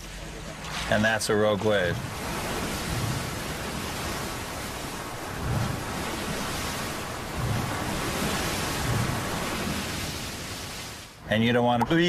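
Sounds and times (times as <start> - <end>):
waves rushing: 0.0 - 12.0
wind: 0.0 - 12.0.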